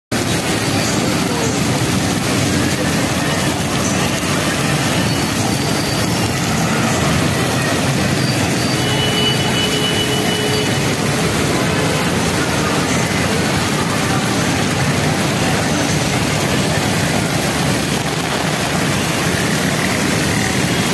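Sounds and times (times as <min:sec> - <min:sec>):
heavy rain pouring: 0:00.1 - 0:20.9
vehicles splashing through water: 0:00.1 - 0:20.9.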